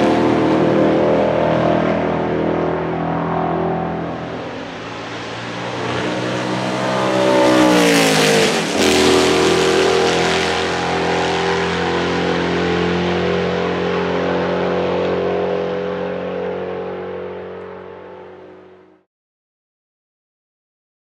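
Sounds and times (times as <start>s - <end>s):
racing engine passing by: 0.0s - 18.9s.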